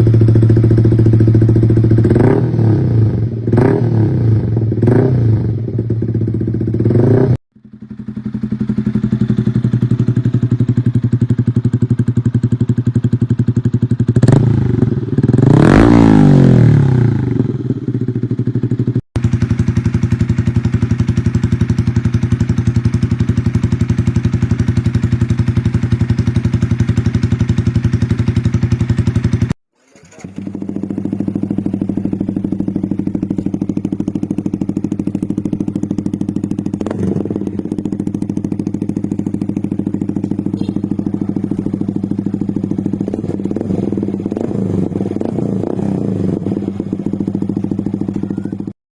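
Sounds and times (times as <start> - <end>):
motorcycle engine idling and revving: 0.0 - 48.8.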